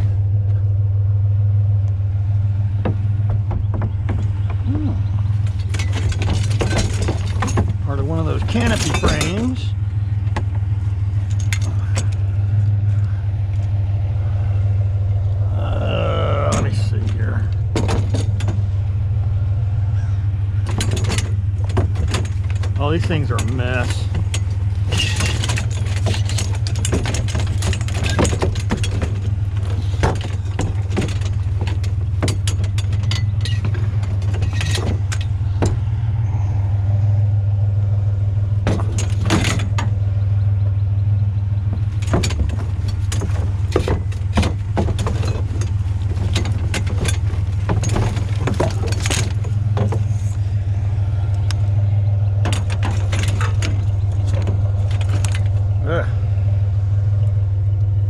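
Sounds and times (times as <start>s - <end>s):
truck engine idling: 0.0s - 58.0s
metal tubing clanking and rattling: 2.4s - 58.0s.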